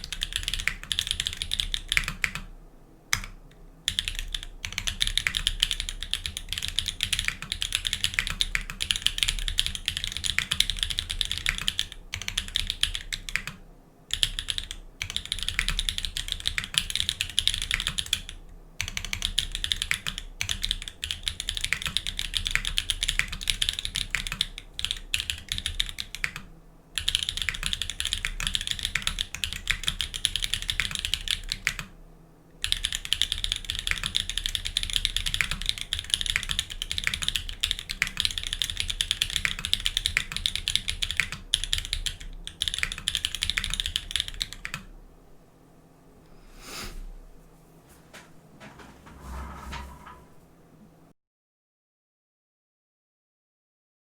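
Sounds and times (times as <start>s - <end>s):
fast mechanical keyboard typing: 0.0s - 2.5s, 3.1s - 31.9s, 32.6s - 44.9s.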